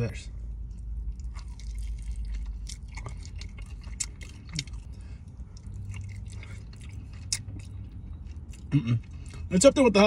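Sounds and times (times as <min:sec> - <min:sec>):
low steady hum: 0:00.0 - 0:10.0
man chewing wet mouth clicks: 0:01.0 - 0:09.5.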